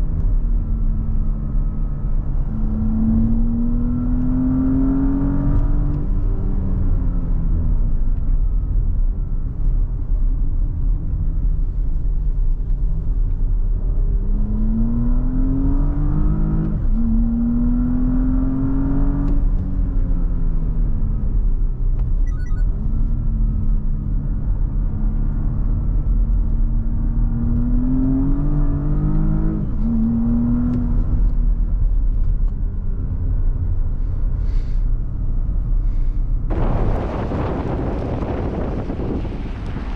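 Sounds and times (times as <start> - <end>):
car engine accelerating: 0.0 - 8.8, 12.5 - 34.0, 35.5 - 39.9
low road rumble: 0.0 - 39.9.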